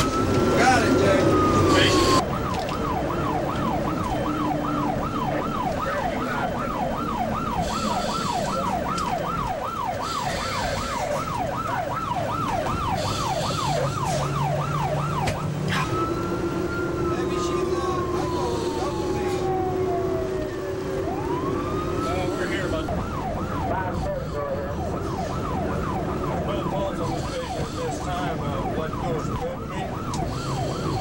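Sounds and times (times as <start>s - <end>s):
siren wailing and yelping: 0.0s - 31.0s
vehicle rumble: 0.0s - 31.0s.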